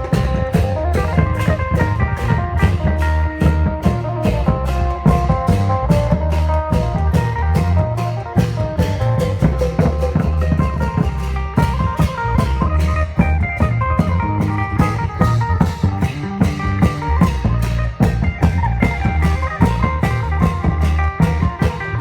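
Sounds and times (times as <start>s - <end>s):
fast steady drum beat: 0.0s - 22.0s
heavy bass: 0.0s - 22.0s
plucked melodic lead: 0.0s - 22.0s.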